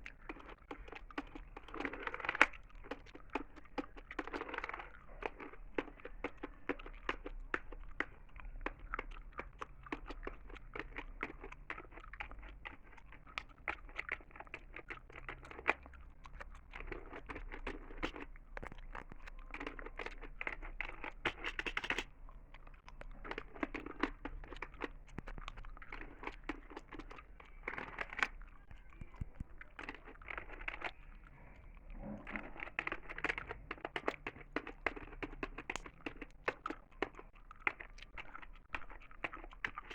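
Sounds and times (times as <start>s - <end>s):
gum chewing: 0.0s - 39.9s.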